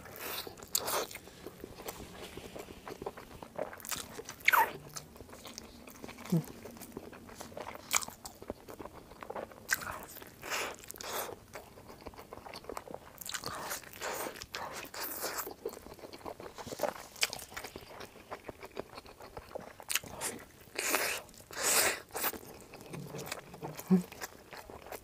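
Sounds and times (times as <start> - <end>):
chewing and mouth noises: 0.0 - 25.0.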